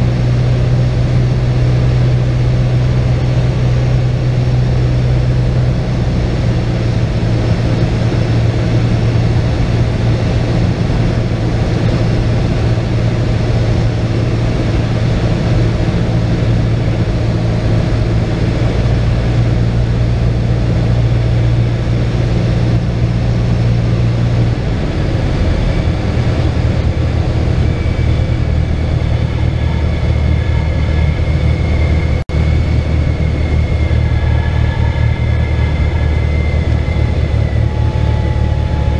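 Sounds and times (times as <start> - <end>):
propeller aircraft engine drone: 0.0 - 38.9.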